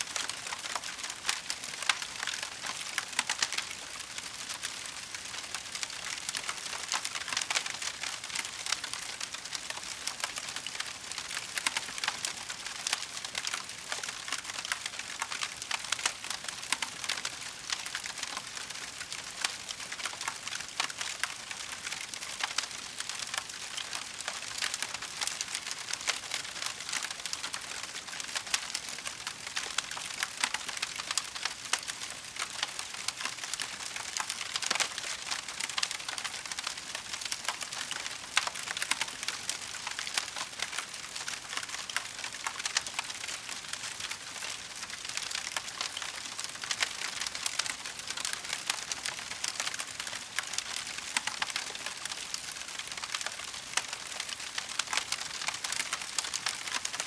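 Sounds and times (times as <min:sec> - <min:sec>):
wood crackling in fireplace: 0:00.0 - 0:57.0.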